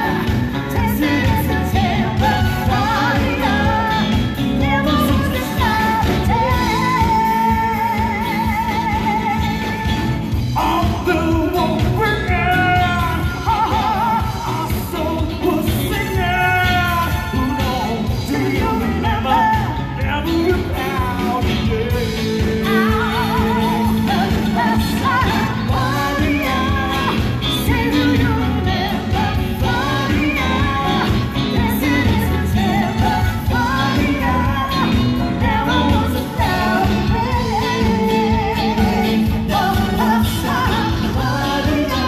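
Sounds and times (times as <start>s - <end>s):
pop-rock song with singing: 0.0s - 42.0s.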